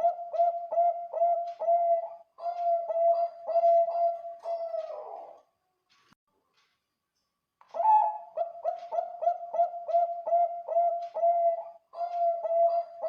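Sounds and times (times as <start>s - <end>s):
dove cooing: 0.0s - 5.4s, 7.8s - 13.0s.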